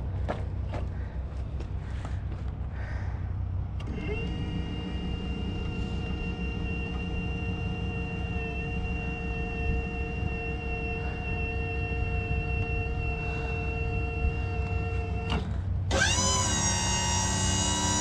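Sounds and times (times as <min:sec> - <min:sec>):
sawmill engine running: 0:03.3 - 0:18.0.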